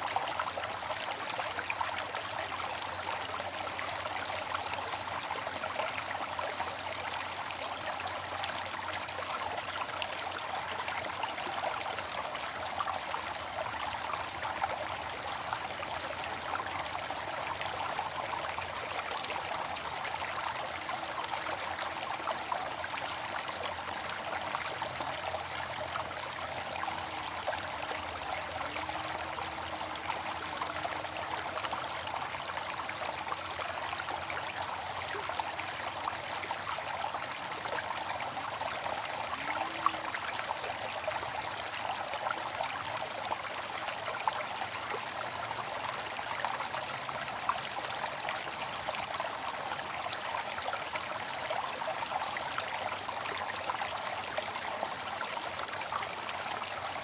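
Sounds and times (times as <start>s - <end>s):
water fountain splashing: 0.0s - 57.0s.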